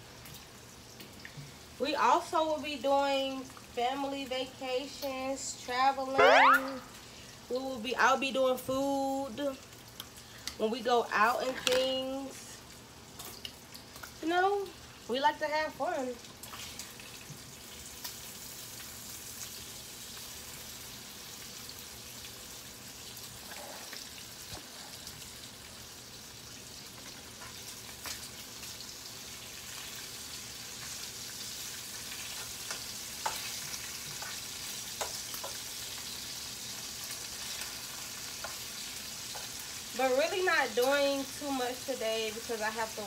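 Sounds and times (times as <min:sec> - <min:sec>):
bacon sizzling: 0:00.0 - 0:43.0.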